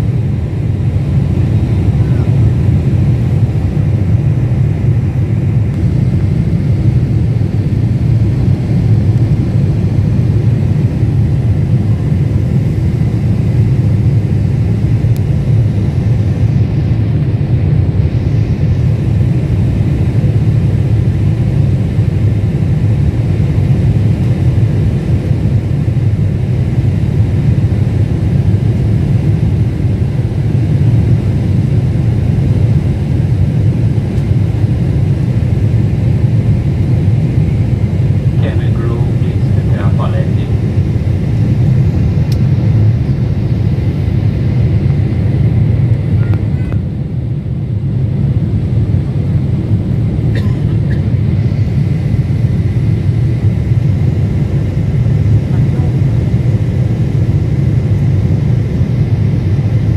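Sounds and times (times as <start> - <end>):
airliner engines low rumble: 0.0 - 59.9.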